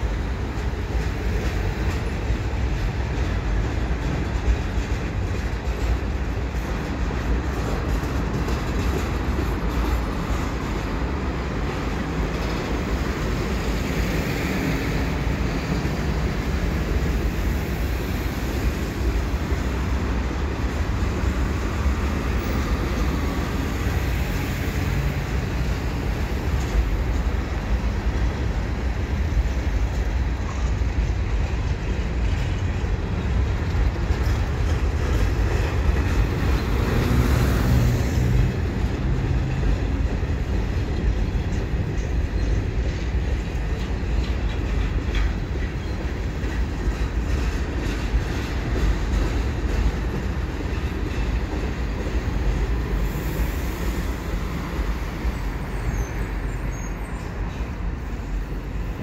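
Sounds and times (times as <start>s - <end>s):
train wheels rumbling on bridge: 0.0s - 59.0s.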